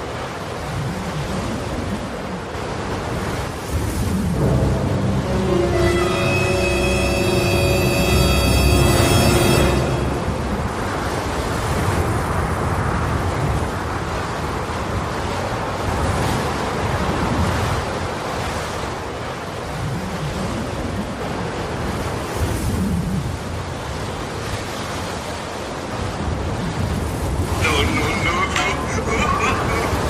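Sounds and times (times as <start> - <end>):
rushing water: 0.0 - 30.0.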